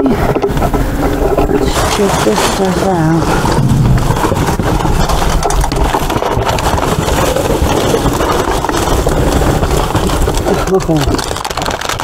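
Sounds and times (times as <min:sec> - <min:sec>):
low rumble: 0:00.0 - 0:11.2
plastic bags and cardboard rustling: 0:00.0 - 0:12.0.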